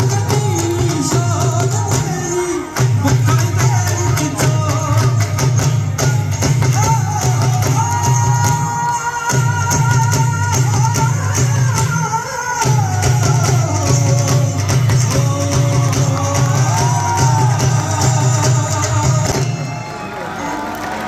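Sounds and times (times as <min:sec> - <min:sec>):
dhol drum beating: 0:00.0 - 0:20.5.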